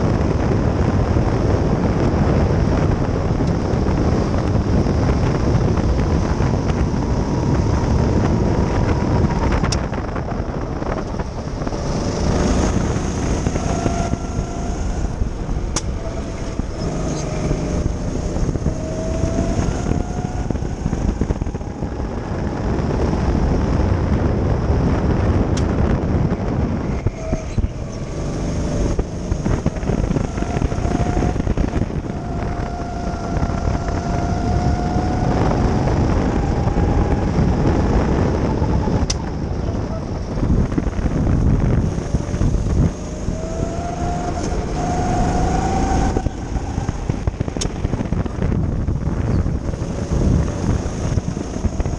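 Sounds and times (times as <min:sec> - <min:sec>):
go-kart engine revving: 0:00.0 - 0:51.9
wind on microphone: 0:00.0 - 0:51.9.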